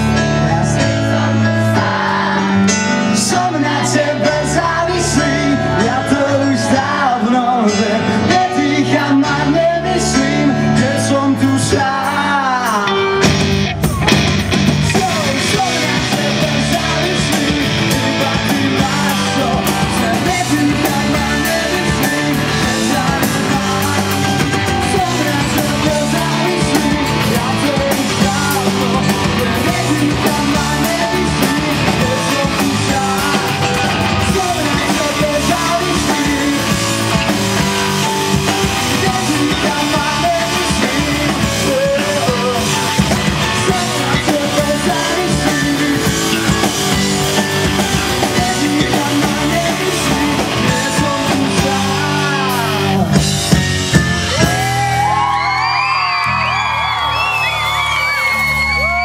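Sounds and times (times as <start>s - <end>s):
man singing: 0.0s - 13.4s, 14.8s - 55.5s
electric guitar: 0.0s - 59.0s
live rock band playing: 0.0s - 59.0s.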